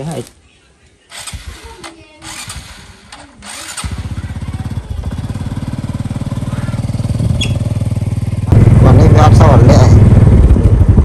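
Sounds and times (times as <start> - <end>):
motorbike engine running: 1.1 - 11.0.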